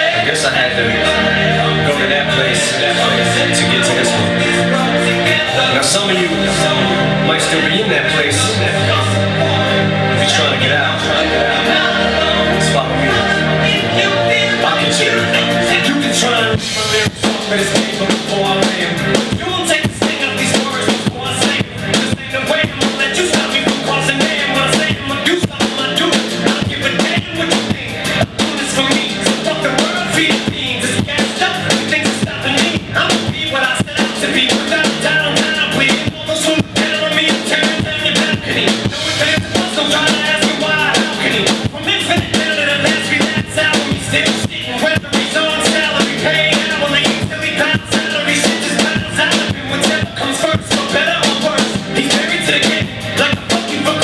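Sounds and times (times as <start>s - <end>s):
drum kit hip-hop beat: 0.0s - 54.0s
rap backing track: 0.0s - 54.0s.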